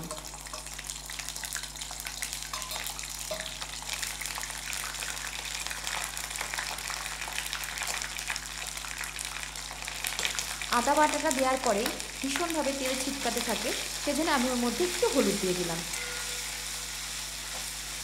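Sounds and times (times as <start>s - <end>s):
ginger paste sizzling in oil: 0.0s - 18.0s.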